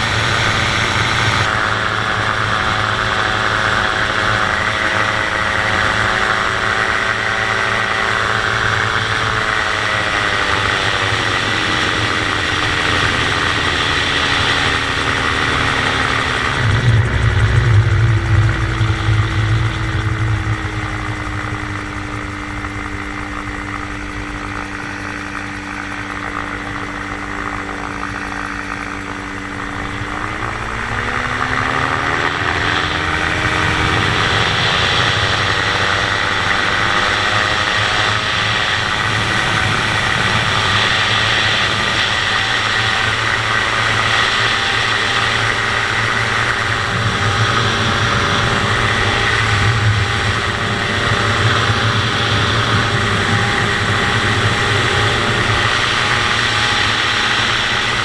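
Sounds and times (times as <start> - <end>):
aircraft engine and propeller: 0.0 - 58.0.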